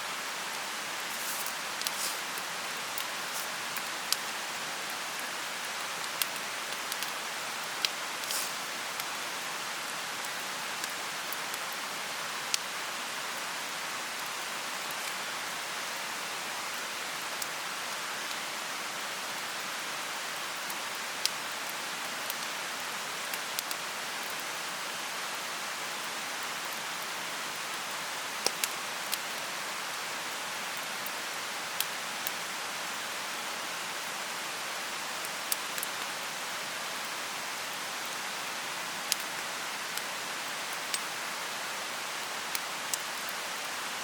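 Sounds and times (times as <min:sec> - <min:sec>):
mountain stream rushing: 0:00.0 - 0:44.0.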